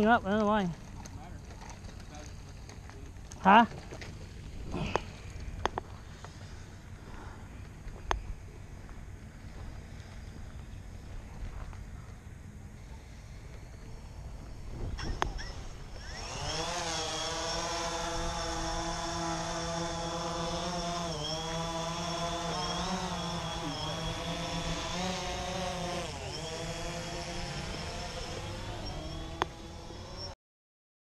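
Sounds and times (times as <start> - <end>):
drone propellers whining: 4.4 - 30.4.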